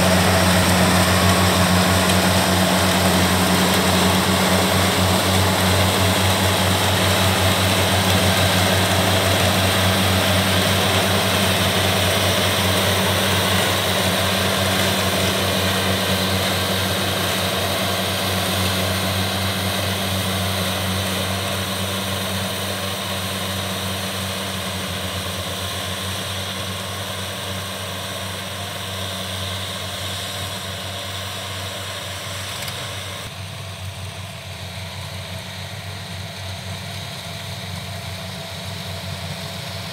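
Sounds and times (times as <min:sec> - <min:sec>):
combine harvester diesel drone: 0:00.0 - 0:39.9.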